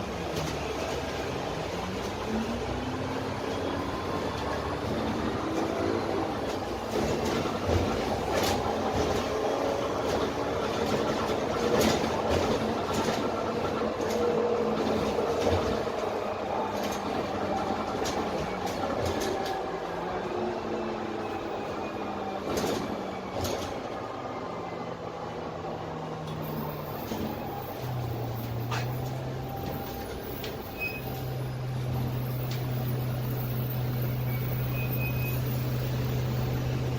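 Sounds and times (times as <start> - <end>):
bus body rattling: 0.0 - 24.2, 26.0 - 36.9
bus engine rumble: 0.0 - 36.9.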